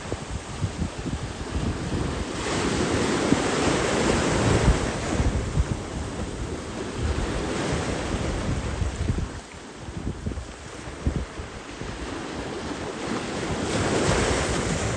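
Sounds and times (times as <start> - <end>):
ocean surf rushing: 0.0 - 14.9
wind buffeting microphone: 0.0 - 14.9.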